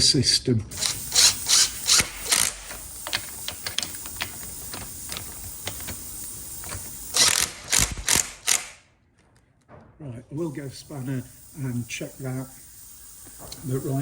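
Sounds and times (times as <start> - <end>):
power wrench gun bursts: 0.7 - 8.9, 10.5 - 14.0
small clicks: 0.7 - 9.4, 10.8 - 14.0.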